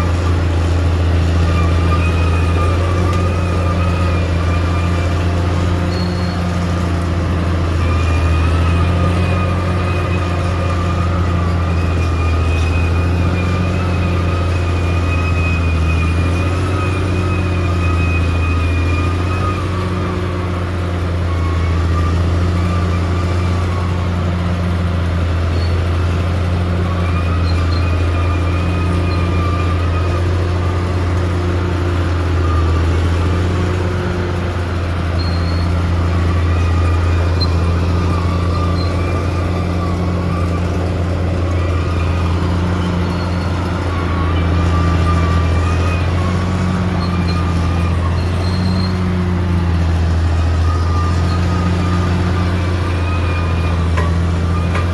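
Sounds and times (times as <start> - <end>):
bulldozer diesel engine droning: 0.0 - 54.9.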